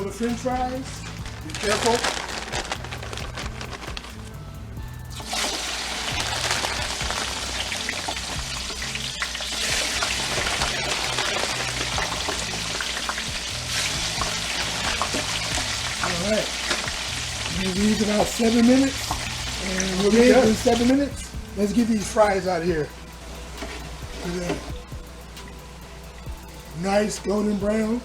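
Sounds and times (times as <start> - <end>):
fries sizzling in hot oil: 0.0 - 4.3, 5.1 - 26.2.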